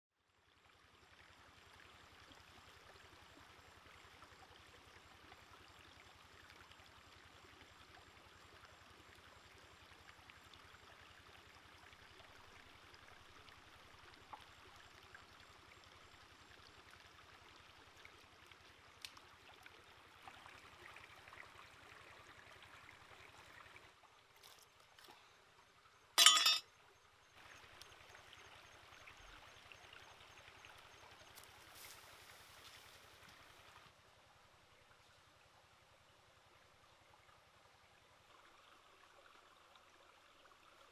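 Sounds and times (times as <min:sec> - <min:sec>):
stream rushing and trickling: 0:00.2 - 0:40.9.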